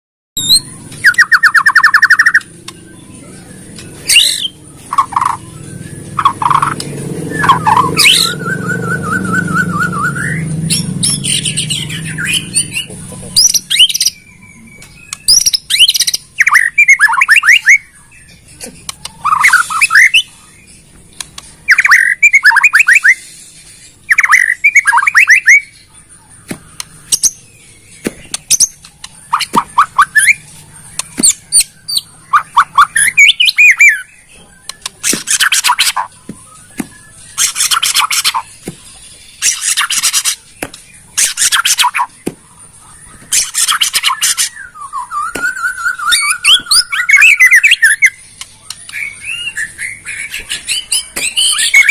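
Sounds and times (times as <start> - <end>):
bird singing whistled notes: 0.4 - 51.9.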